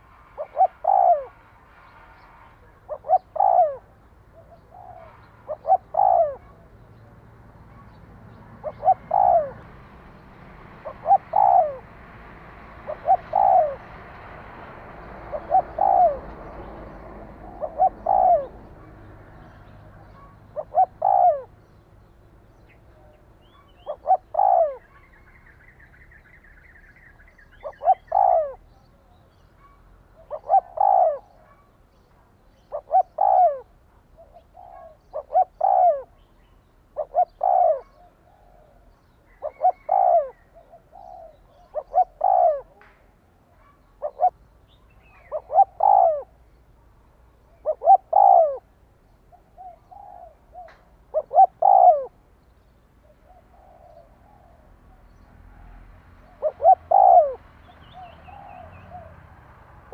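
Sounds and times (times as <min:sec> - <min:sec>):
dove cooing: 0:00.0 - 0:01.4, 0:02.3 - 0:14.3, 0:14.9 - 0:21.8, 0:22.6 - 0:25.2, 0:27.6 - 0:31.7, 0:32.5 - 0:36.3, 0:36.9 - 0:42.8, 0:43.6 - 0:46.5, 0:47.5 - 0:52.2, 0:53.0 - 0:55.2, 0:56.2 - 0:59.3.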